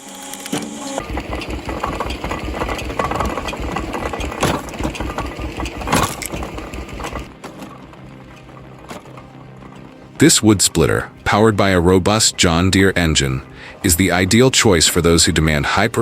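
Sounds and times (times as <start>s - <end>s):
machine engine pulsing: 0.0s - 16.0s.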